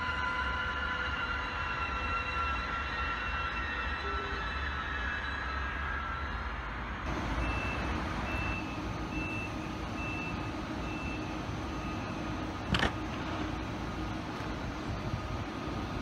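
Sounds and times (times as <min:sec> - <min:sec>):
electric locomotive passing: 0:00.0 - 0:16.0.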